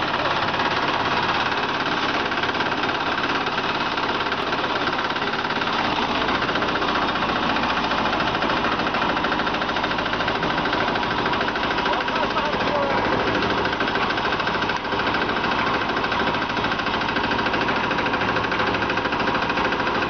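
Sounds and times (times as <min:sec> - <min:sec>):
concrete mixer rattling: 0:00.0 - 0:20.0.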